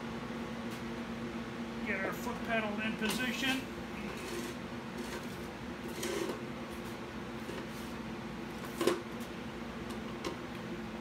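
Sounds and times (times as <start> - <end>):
shop equipment humming: 0.0 - 11.0.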